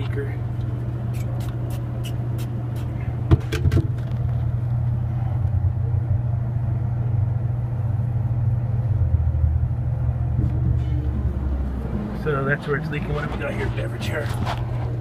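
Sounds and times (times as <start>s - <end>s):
low mechanical hum of machinery: 0.0s - 15.0s.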